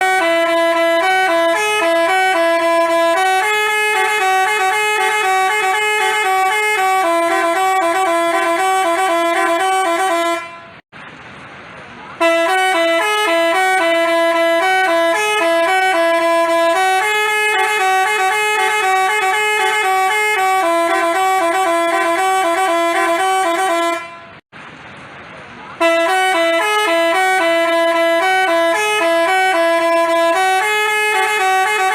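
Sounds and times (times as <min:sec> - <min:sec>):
multi-tone bus horn melody: 0:00.0 - 0:10.8, 0:12.2 - 0:24.4, 0:25.8 - 0:31.9.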